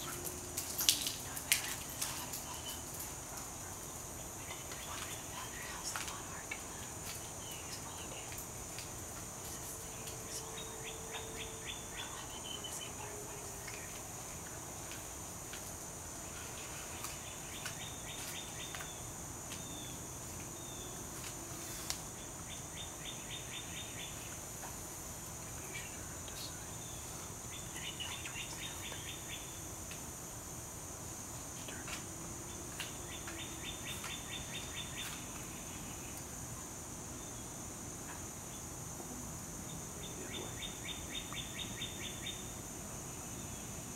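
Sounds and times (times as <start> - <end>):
songbird trill: 0.0 - 15.1, 16.2 - 24.8, 25.4 - 29.9, 31.5 - 38.8, 39.6 - 43.9
high insect drone: 0.0 - 43.9.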